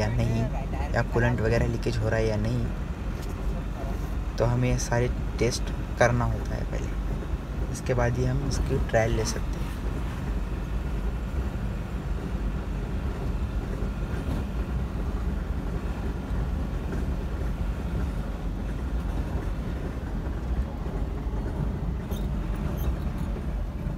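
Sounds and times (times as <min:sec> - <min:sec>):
diesel engine drone: 0:00.0 - 0:23.9
road and tyre noise: 0:00.0 - 0:23.9.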